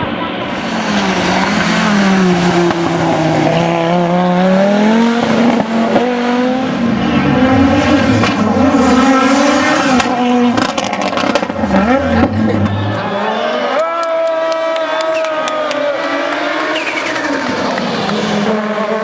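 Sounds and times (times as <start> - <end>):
rally car engine revving: 0.0 - 13.7, 15.7 - 19.0.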